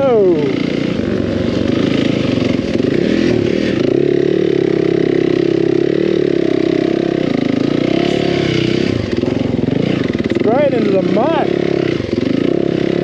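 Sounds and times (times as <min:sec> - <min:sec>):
dirt bike engine under throttle: 0:00.0 - 0:13.0.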